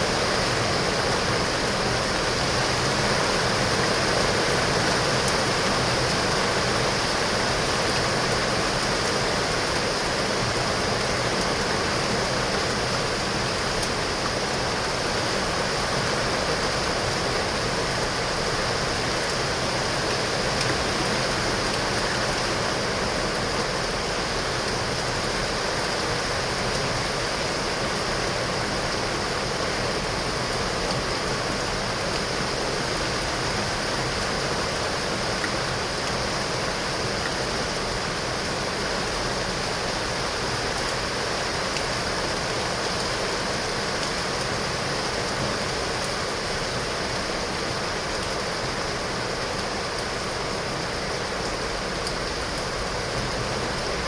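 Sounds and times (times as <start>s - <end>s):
heavy rain on window glass: 0.0s - 54.0s.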